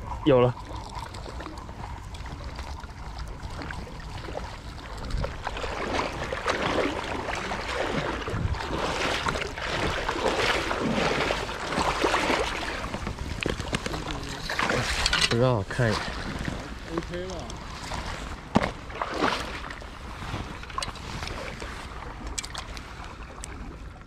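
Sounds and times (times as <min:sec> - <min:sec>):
river water splashing: 0:00.0 - 0:24.0.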